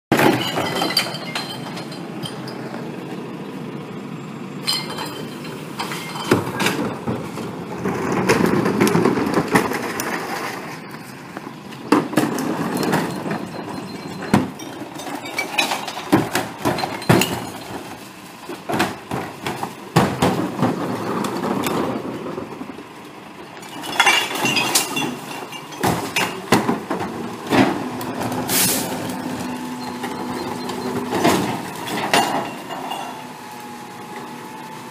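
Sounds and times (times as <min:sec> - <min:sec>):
recyclables crashing and clinking: 0:00.1 - 0:02.8, 0:04.6 - 0:10.8, 0:11.9 - 0:33.5
garbage truck engine running: 0:00.1 - 0:34.9.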